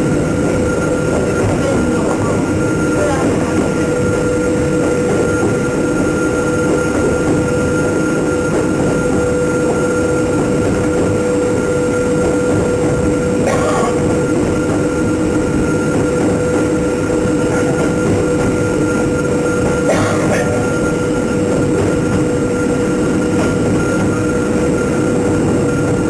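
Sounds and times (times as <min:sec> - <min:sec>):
train motor hum: 0:00.0 - 0:26.0
train wheels rumbling on track: 0:00.0 - 0:26.0.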